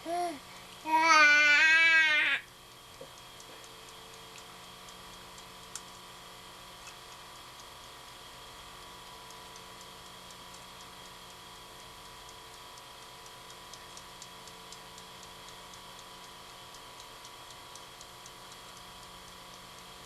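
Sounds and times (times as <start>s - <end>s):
electrical hum: 0.0s - 20.0s
kitchen timer ticking: 0.0s - 20.0s.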